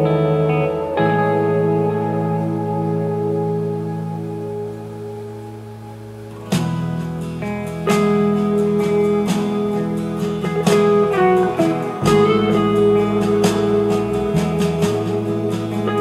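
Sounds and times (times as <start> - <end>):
guitar music over speakers: 0.0 - 16.0.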